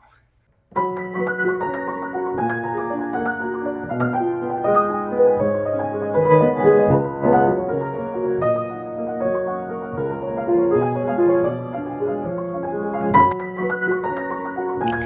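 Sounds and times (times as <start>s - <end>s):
piano chords and melody: 0.7s - 15.0s.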